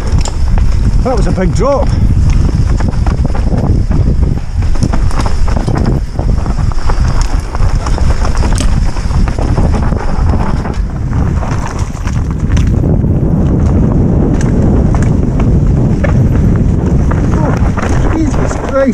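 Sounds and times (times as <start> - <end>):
bike rattling and knocking: 0.0 - 18.9
tyres on loose ground: 0.0 - 18.9
wind rumble on microphone: 0.0 - 18.9.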